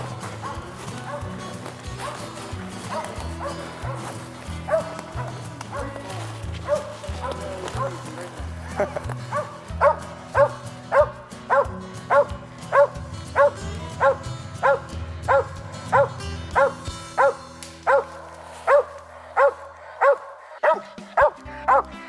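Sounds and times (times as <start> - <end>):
background music: 0.0 - 22.0
dog barking: 0.0 - 22.0.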